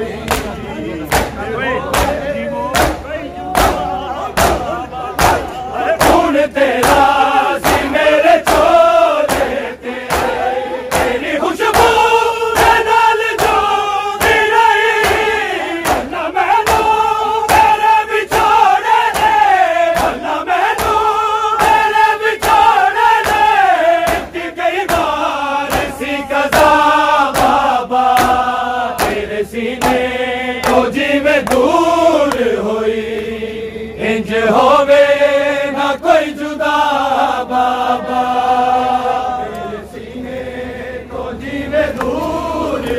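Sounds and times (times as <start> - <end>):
men chanting a lament: 0.0 - 42.9.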